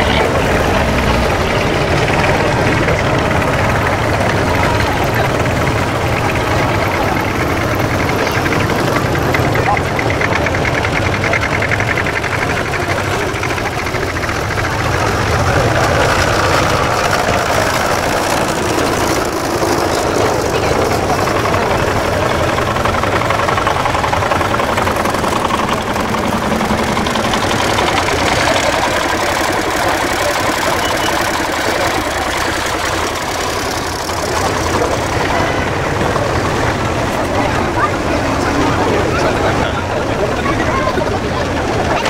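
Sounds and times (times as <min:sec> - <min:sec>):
crowd chatter: 0:00.0 - 0:42.0
tractor engines running: 0:00.0 - 0:42.0.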